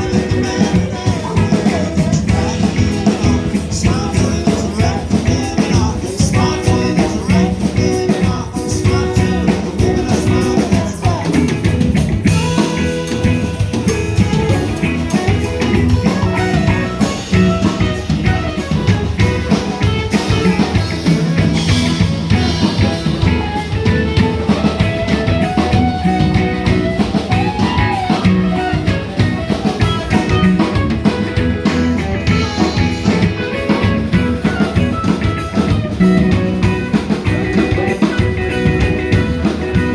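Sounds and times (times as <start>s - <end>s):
band playing drums and guitar: 0.0s - 39.9s.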